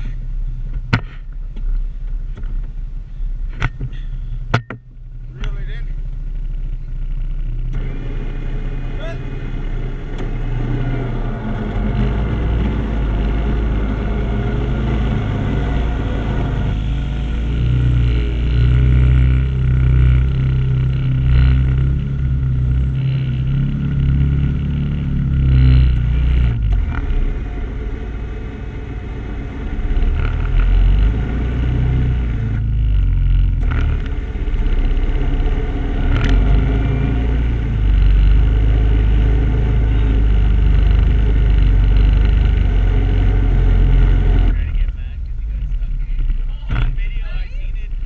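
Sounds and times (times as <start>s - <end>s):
vehicle engines running: 0.0s - 48.0s.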